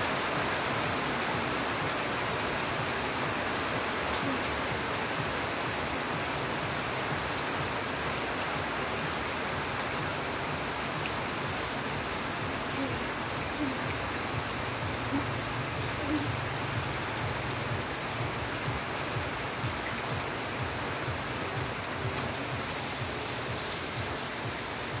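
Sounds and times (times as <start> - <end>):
heavy rain on plants: 0.0 - 25.0.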